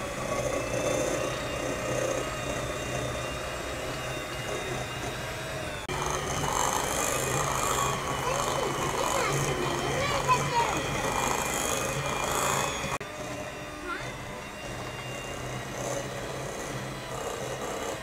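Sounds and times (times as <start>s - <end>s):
electric hand mixer running: 0.0s - 18.0s.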